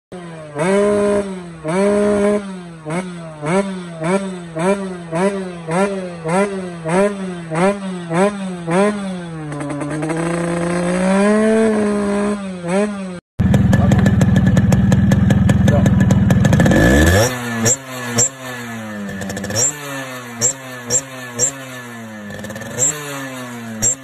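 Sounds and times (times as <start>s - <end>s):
motorbike engine revving: 0.1s - 24.0s.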